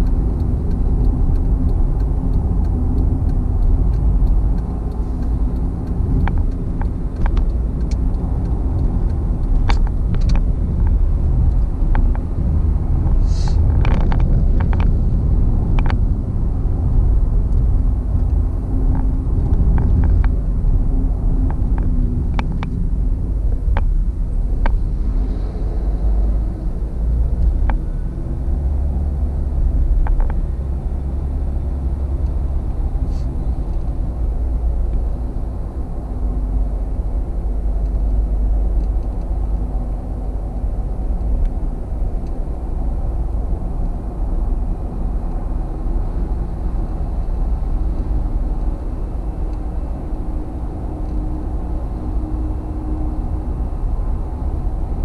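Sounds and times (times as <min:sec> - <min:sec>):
car engine hum: 0:00.0 - 0:55.0
road and tyre rumble: 0:00.0 - 0:55.0.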